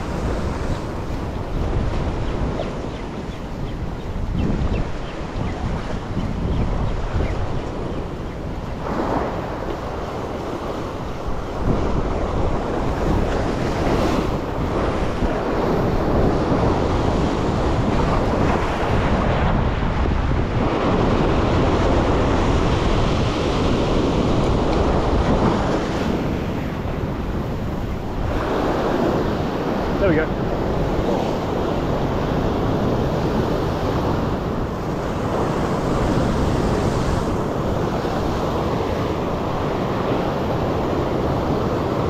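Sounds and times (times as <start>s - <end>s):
ocean surf over rocks: 0.0s - 42.0s
wind buffeting microphone: 0.0s - 42.0s.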